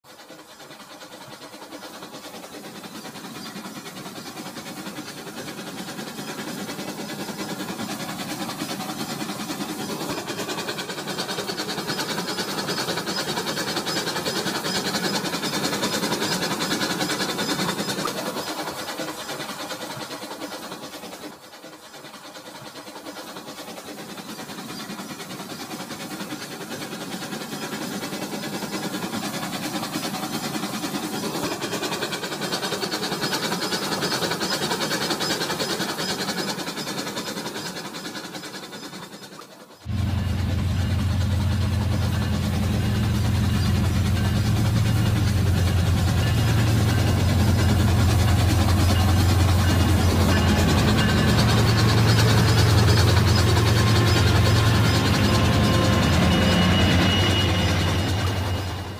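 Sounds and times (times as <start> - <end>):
toy train running on plastic track: 0.0 - 58.9.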